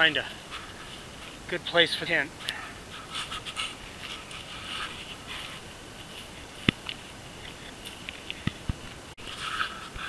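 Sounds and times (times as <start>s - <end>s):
footsteps in dry grass: 0.0s - 10.0s.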